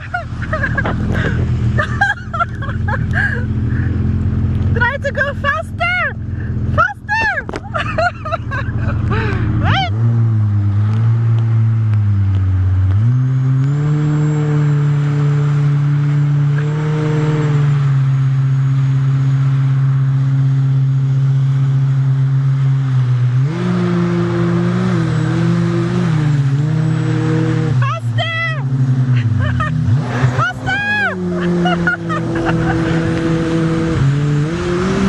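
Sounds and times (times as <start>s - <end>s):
jet ski engine: 0.0s - 35.0s.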